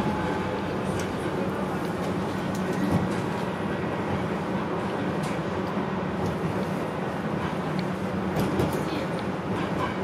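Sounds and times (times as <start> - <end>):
tram rumbling on rails: 0.0 - 10.0.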